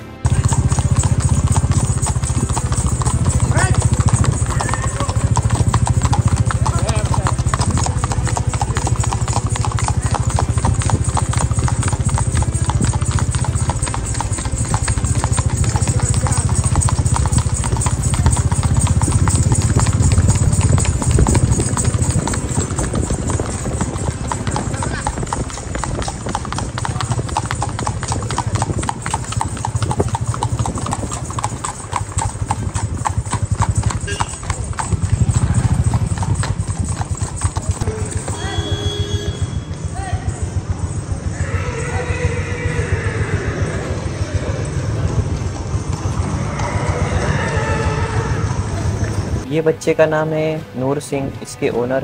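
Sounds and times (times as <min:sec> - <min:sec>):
horse hooves clip-clopping: 0:00.2 - 0:49.5.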